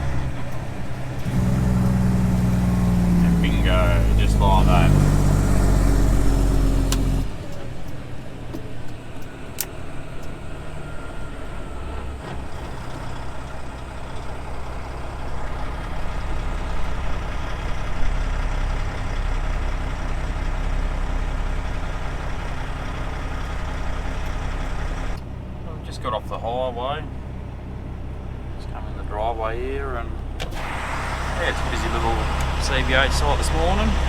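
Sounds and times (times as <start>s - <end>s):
truck diesel engine: 0.0s - 34.0s.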